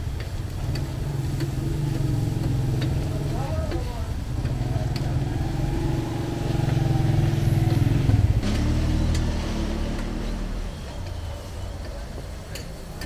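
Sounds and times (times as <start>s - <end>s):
vehicle engine running: 0.6s - 12.0s.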